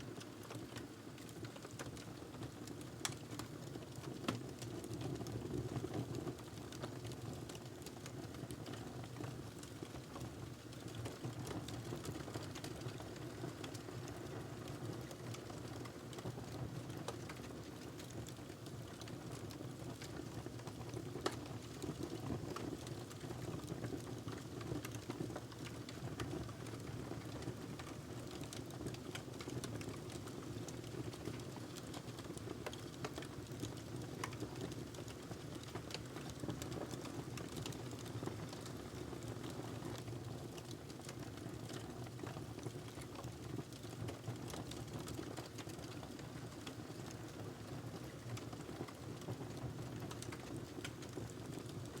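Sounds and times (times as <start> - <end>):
wood fire crackling: 0.1 - 52.0.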